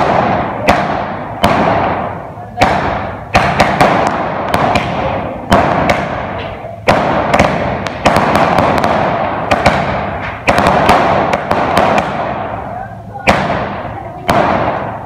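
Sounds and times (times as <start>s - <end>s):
fireworks bursting with loud bangs: 0.0s - 15.0s.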